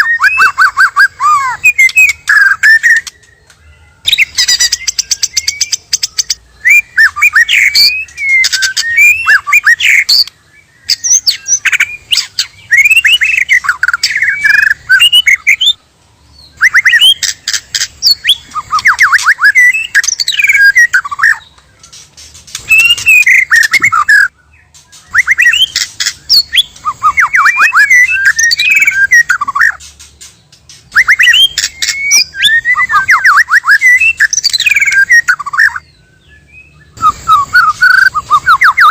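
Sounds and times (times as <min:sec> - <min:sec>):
songbird singing rapid sweeping notes: 0:04.0 - 0:38.9.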